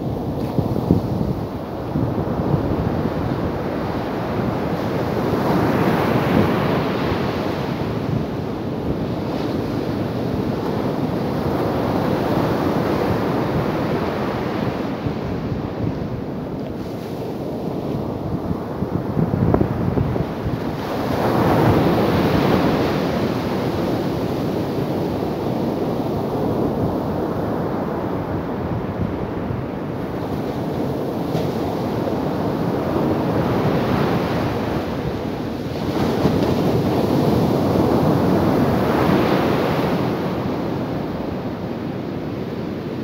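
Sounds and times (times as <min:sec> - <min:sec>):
ocean waves breaking on beach: 0:00.0 - 0:43.0.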